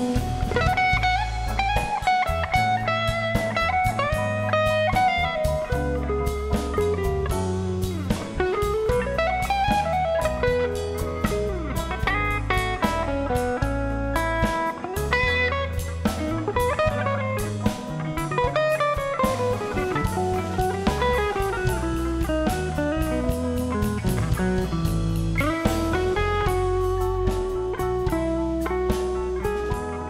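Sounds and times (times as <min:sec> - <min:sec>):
bass guitar: 0:00.0 - 0:30.0
drum kit: 0:00.0 - 0:30.0
electric guitar solo: 0:00.0 - 0:30.0.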